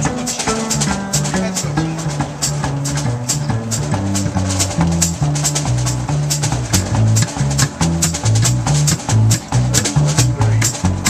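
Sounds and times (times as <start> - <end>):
bass line: 0.0 - 11.0
drums: 0.0 - 11.0.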